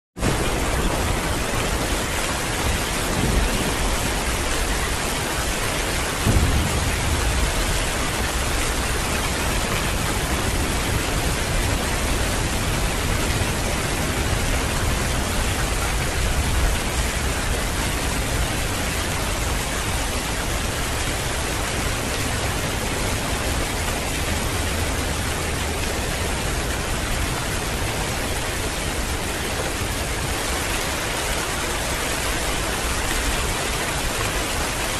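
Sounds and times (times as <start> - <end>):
heavy rain: 0.2 - 34.9
thunder rumbling: 0.2 - 34.9.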